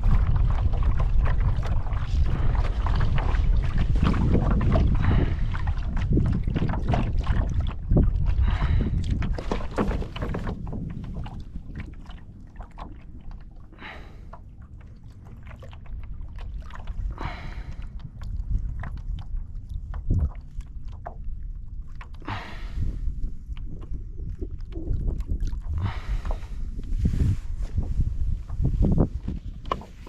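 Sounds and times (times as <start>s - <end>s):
water sloshing around kayak: 0.0s - 30.0s
wind rumble on microphone: 0.0s - 30.0s.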